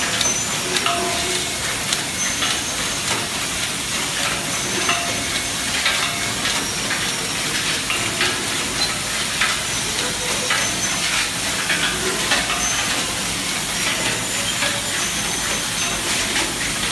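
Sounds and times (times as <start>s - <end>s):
machine hissing whir: 0.0s - 16.9s
metallic clicks and clacks: 0.0s - 16.9s.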